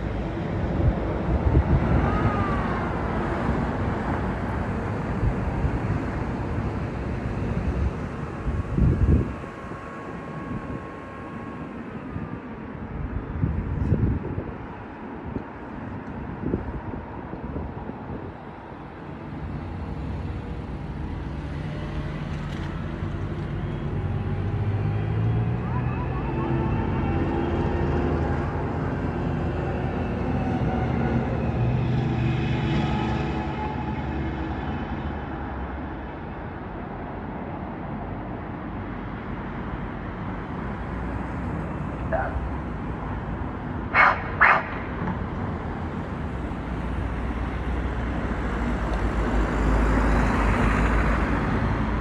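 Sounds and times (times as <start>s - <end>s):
outdoor background noise: 0.0s - 52.0s
steady traffic noise: 0.0s - 52.0s
vehicle engine drone: 0.0s - 52.0s.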